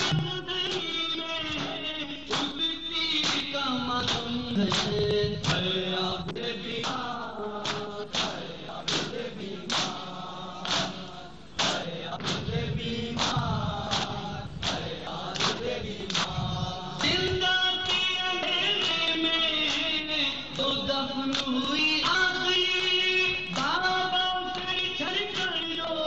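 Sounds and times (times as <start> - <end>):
men chanting: 0.0 - 26.0.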